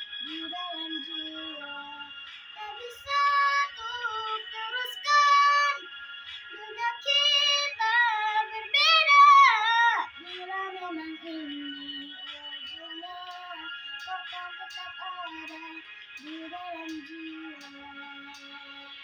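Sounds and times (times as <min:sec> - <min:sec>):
girl singing a slow ballad: 0:00.0 - 0:05.9, 0:06.5 - 0:19.0.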